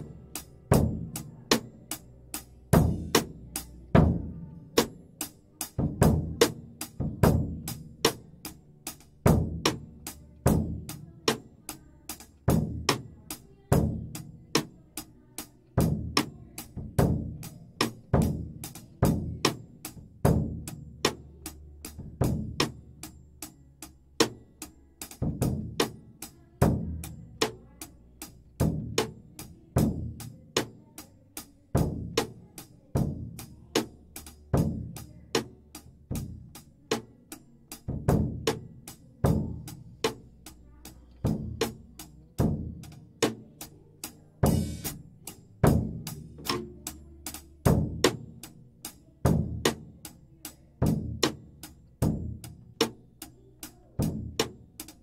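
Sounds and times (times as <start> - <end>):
drum kit rock beat: 0.0 - 55.0.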